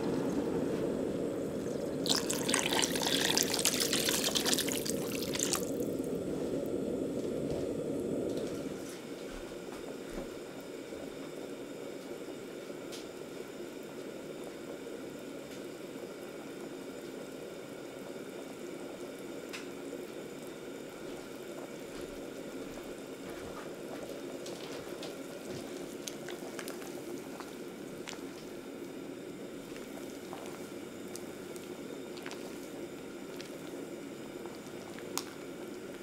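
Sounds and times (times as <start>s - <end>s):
soup bubbling in pot: 0.0s - 36.0s.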